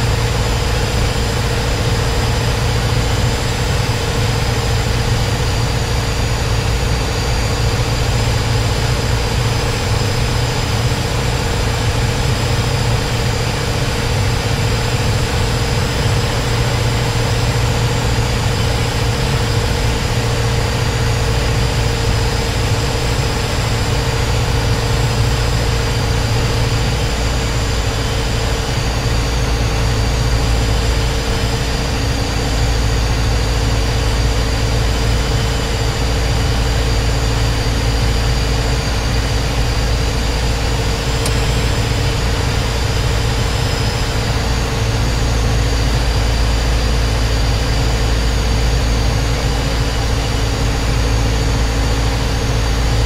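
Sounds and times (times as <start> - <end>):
propeller aircraft engine drone: 0.0 - 53.0.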